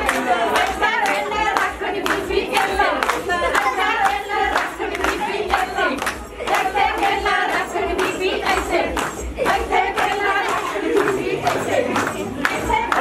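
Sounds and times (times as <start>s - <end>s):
group of people singing: 0.0s - 13.0s
rhythmic hand-clapping: 0.0s - 13.0s.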